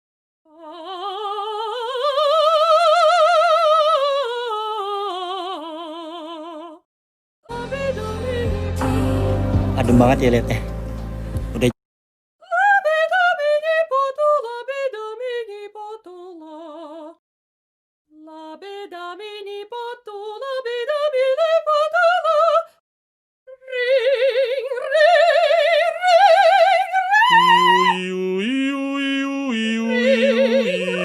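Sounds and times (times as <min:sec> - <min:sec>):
woman singing operatically: 0:00.5 - 0:06.8, 0:07.5 - 0:09.4, 0:12.4 - 0:17.2, 0:18.2 - 0:22.8, 0:23.5 - 0:31.0.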